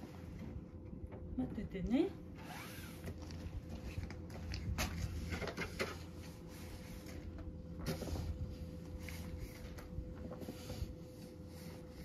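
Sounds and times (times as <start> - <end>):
room heater humming: 0.0 - 12.0.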